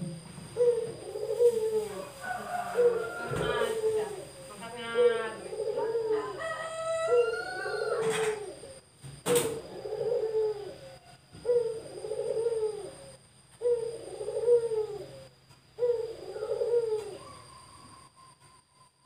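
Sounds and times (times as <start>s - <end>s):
dove cooing: 0.0s - 18.9s.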